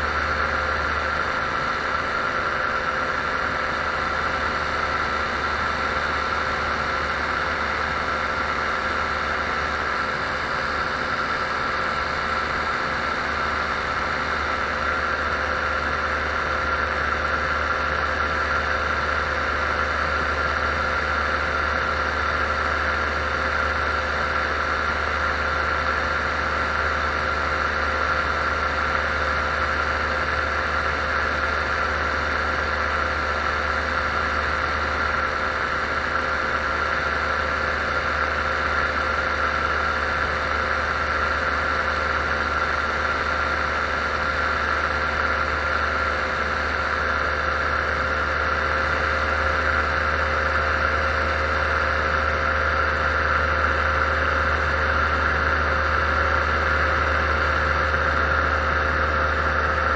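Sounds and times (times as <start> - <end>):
paramotor engine drone: 0.0 - 59.9.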